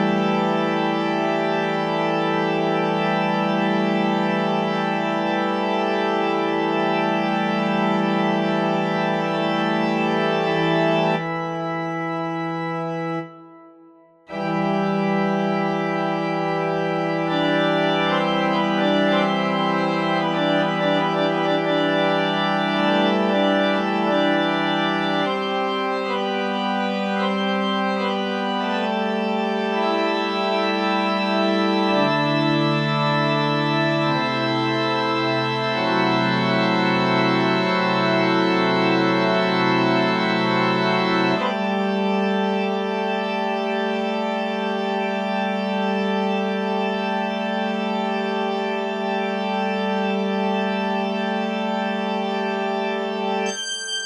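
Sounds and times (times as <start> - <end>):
organ chords: 0.0 - 54.0.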